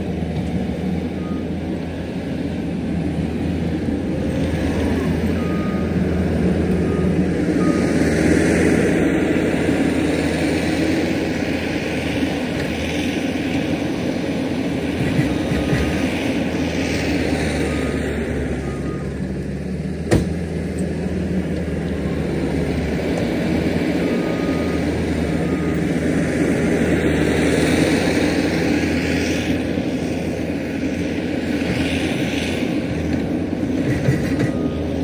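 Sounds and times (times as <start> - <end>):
heavy machine engine running: 0.0 - 35.0.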